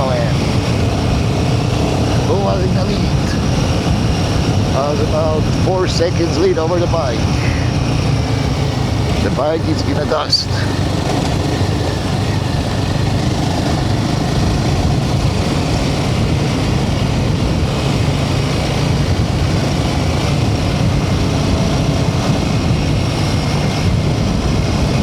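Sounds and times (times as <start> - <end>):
motorcycle engine running: 0.0 - 25.0
wind noise: 0.0 - 25.0.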